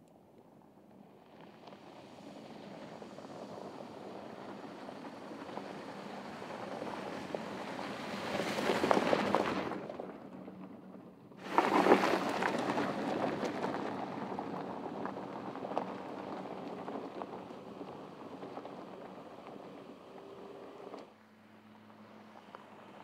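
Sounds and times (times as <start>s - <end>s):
tyres crunching over gravel: 1.2s - 21.1s.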